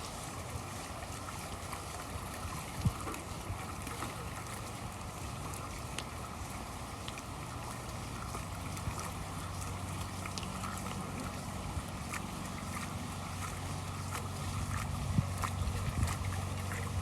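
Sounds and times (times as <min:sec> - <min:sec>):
small splashes and knocks: 0:00.0 - 0:17.0.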